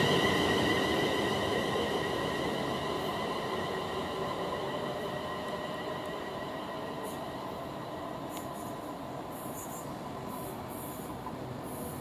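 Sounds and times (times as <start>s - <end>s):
high electric train whine: 0.0s - 12.0s
train wheels rumbling on rail: 0.0s - 12.0s.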